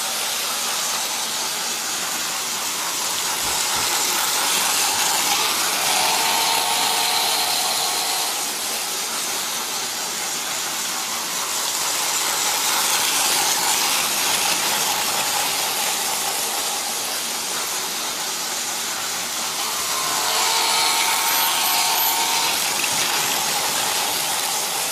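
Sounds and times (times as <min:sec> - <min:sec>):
toy train motor hissing buzz: 0:00.0 - 0:24.9
toy train whining tone: 0:00.0 - 0:24.9.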